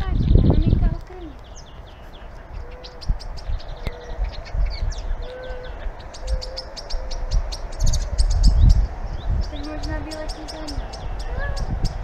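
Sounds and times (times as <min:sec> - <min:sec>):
blackbirds calling: 0:00.0 - 0:12.0.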